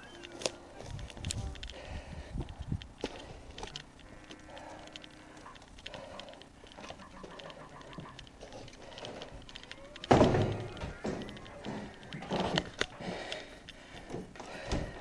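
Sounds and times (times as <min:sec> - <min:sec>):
faint footsteps: 0:00.0 - 0:15.0.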